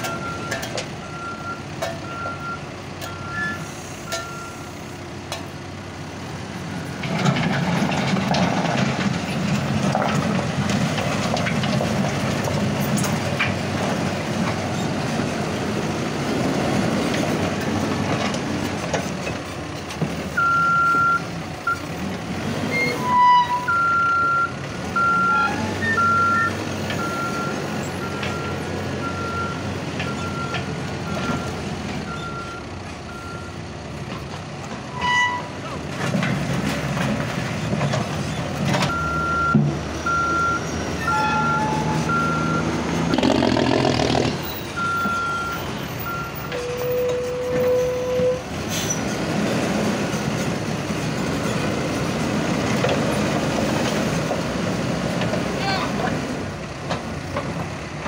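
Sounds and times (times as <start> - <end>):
diesel engine running: 0.0 - 22.9, 23.7 - 58.0.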